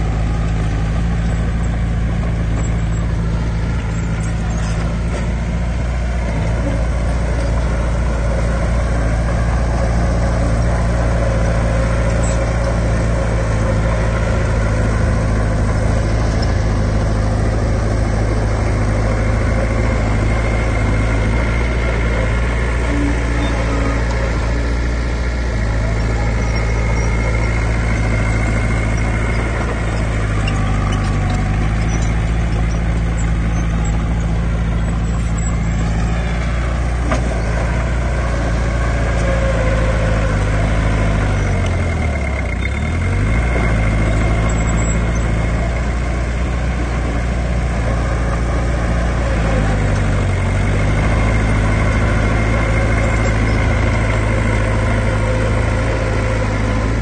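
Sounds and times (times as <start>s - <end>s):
diesel earthmoving engine running: 0.0s - 57.0s.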